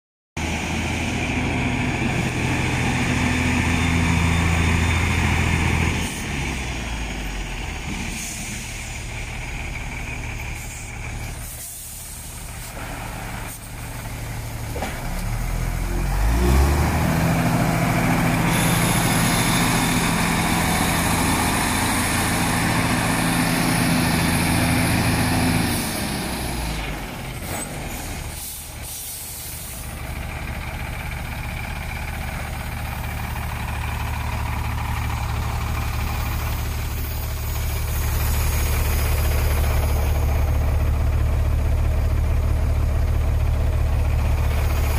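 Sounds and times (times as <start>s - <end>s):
truck engine running: 0.4s - 44.9s.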